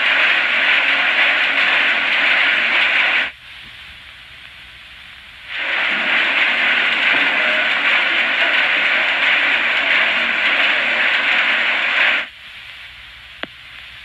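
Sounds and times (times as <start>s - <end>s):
film soundtrack hiss: 0.0s - 14.0s.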